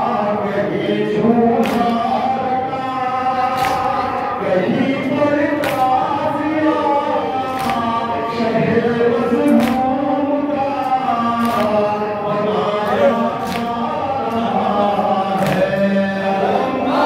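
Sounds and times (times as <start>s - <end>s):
man chanting into a microphone: 0.0s - 17.0s
voices chanting along: 0.0s - 17.0s.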